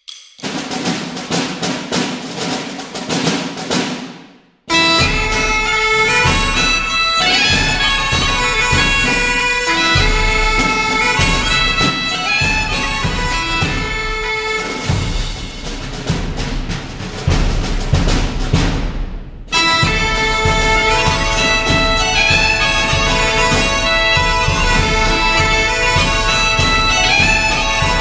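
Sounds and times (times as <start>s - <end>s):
drum beat: 0.0s - 28.0s.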